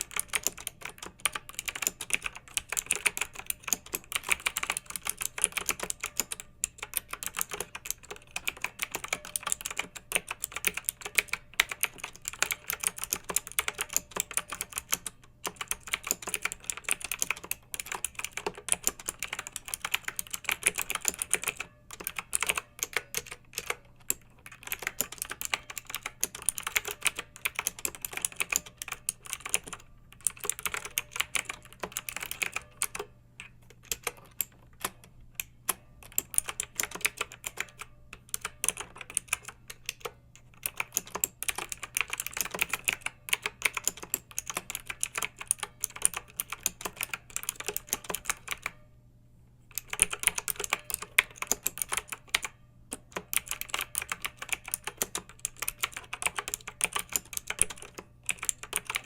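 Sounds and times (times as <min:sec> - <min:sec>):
fast typing on mechanical keyboard: 0:00.0 - 0:48.8, 0:49.7 - 0:59.0.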